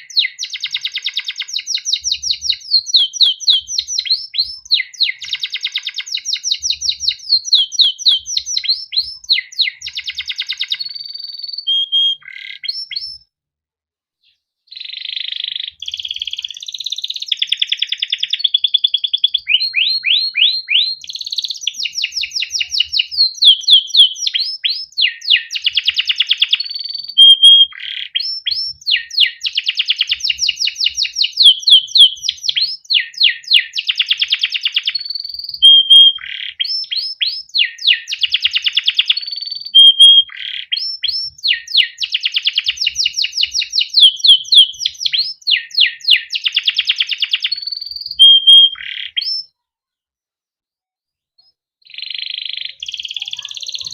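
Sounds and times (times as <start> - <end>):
canary singing: 0.0 - 13.3, 14.7 - 49.6, 51.4 - 53.9.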